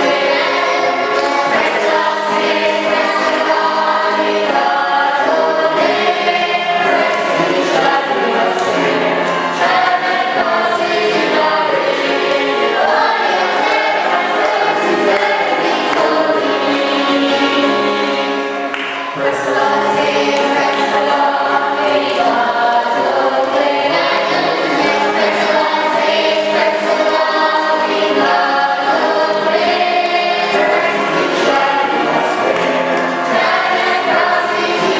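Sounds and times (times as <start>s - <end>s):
choir singing: 0.0s - 34.9s.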